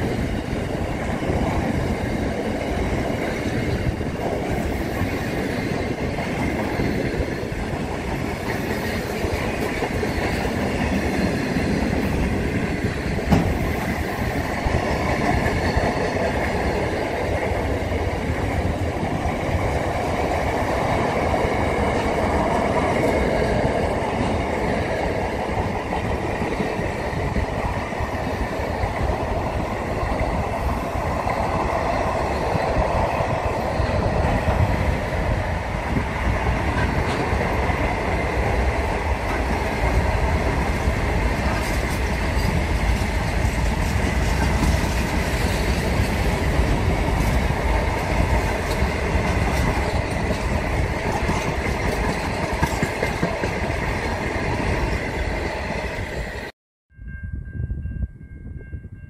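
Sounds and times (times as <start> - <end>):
freight train wheels clattering: 0.0 - 35.3, 36.0 - 55.7.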